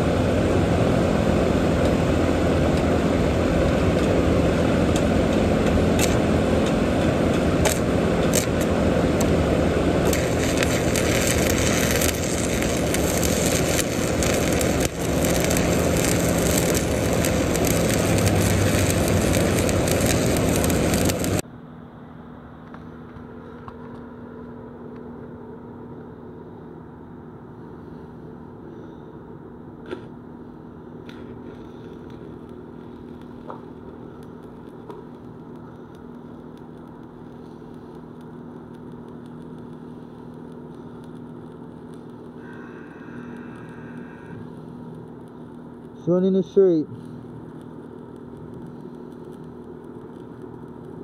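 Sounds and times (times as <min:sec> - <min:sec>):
welding arc crackling: 0:00.0 - 0:21.4, 0:30.9 - 0:51.0
quiet steady hum: 0:01.8 - 0:51.0.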